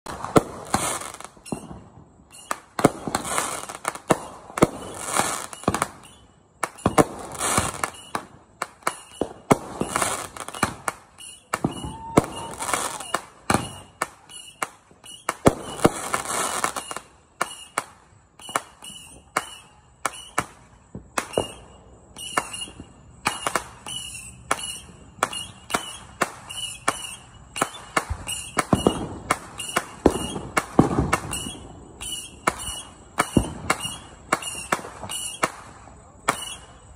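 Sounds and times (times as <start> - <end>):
fireworks bangs and crackling: 0.0 - 36.9
firework whistle: 0.1 - 36.9
fireworks hissing: 0.1 - 36.9.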